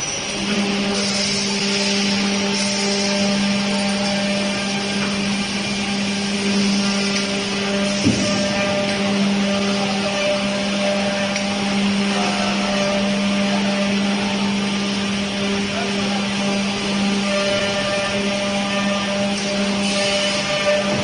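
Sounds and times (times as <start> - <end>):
broad whirring noise: 0.0 - 21.0
machine motor hum: 0.0 - 21.0.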